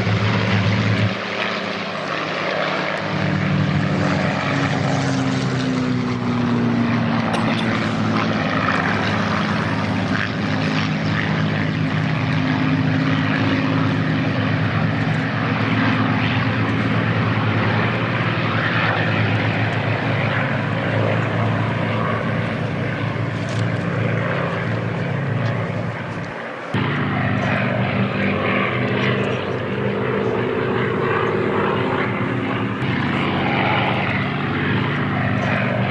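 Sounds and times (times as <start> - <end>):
propeller planes droning overhead: 0.0 - 35.9.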